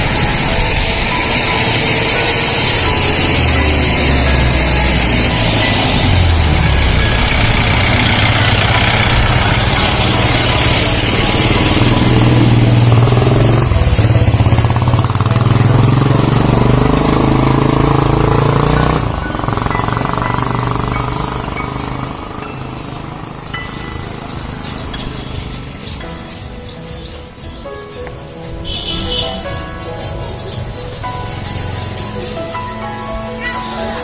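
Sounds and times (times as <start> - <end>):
vehicle engine running: 0.0 - 26.1, 28.7 - 34.0.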